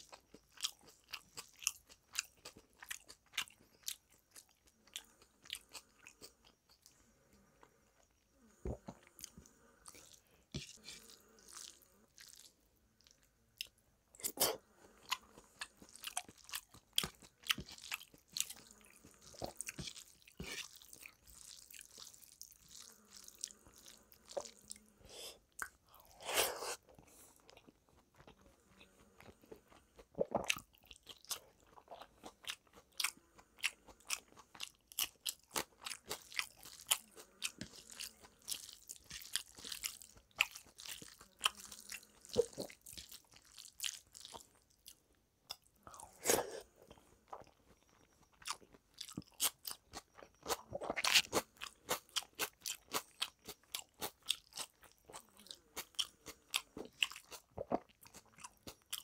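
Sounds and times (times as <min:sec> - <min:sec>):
chewing: 0:00.0 - 0:59.0.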